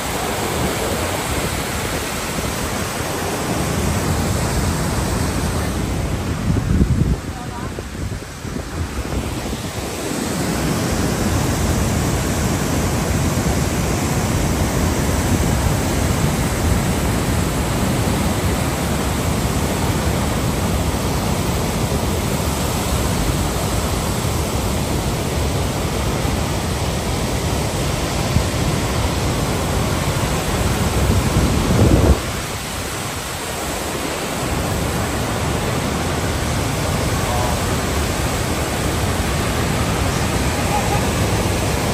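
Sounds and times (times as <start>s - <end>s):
waterfall rushing: 0.0s - 41.9s
wind buffeting microphone: 0.0s - 41.9s.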